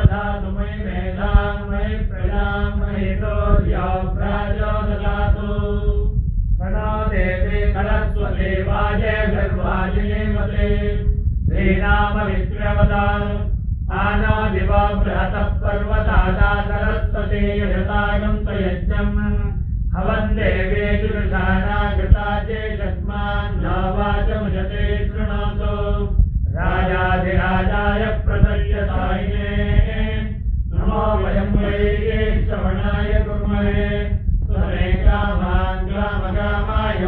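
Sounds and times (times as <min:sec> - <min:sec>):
mantra chanting: 0:00.0 - 0:37.0
steady low hum: 0:00.0 - 0:37.0.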